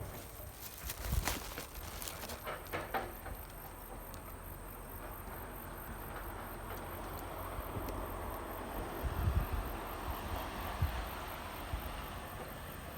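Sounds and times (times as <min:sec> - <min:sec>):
diesel railcar rumbling: 0:00.0 - 0:12.9.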